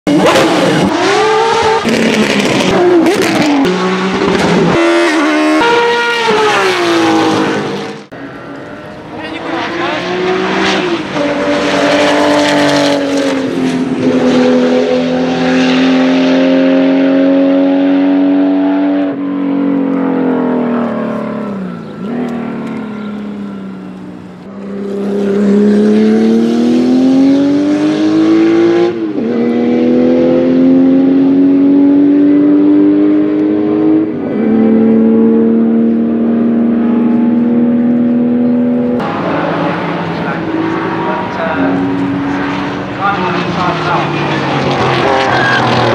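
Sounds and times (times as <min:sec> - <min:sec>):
race car engine at full throttle: 0:00.0 - 0:45.9.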